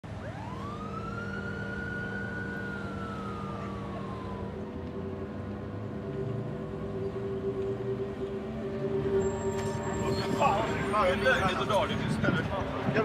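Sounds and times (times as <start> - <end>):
siren wail: 0.0 - 11.8.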